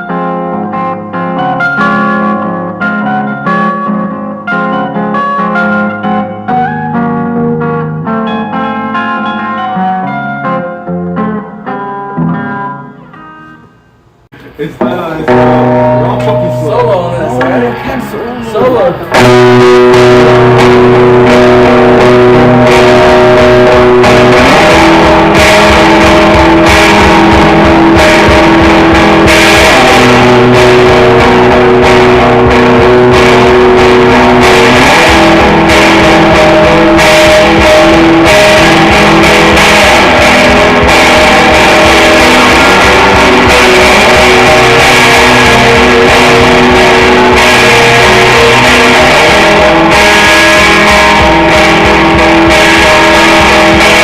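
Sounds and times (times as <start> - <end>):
rock drums: 0.0 - 12.8, 18.6 - 54.0
electric guitars sustained chords: 0.0 - 13.7, 14.8 - 54.0.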